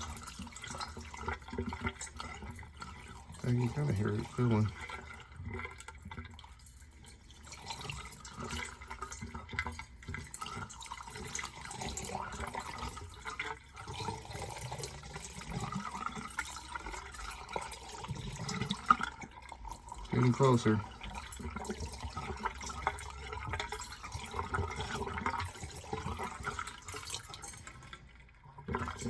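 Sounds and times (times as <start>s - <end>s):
liquid pouring through a funnel: 0.0s - 29.0s
liquid splashing in a pipe: 0.0s - 29.0s.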